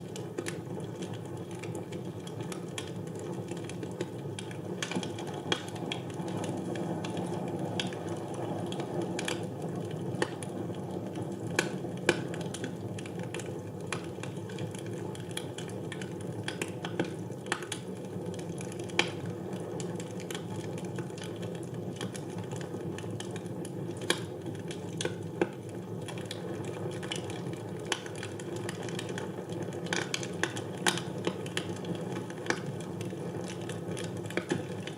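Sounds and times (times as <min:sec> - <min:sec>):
fire crackles and pops: 0:00.0 - 0:34.9.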